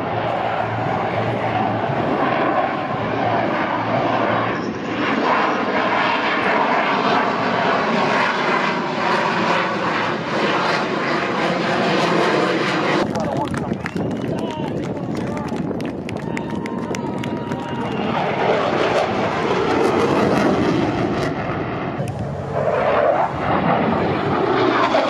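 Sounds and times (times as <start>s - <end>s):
fighter jet passing overhead: 0.0s - 25.0s.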